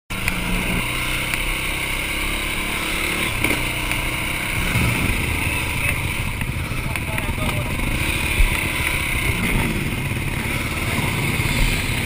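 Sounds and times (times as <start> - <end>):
quad engines revving: 0.1 - 12.0.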